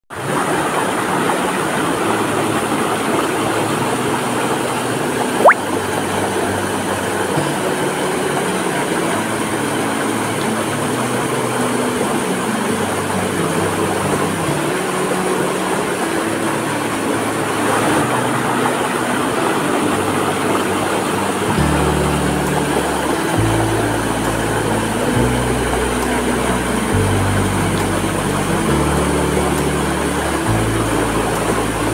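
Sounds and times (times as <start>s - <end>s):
water rushing over rocks: 0.1s - 31.9s.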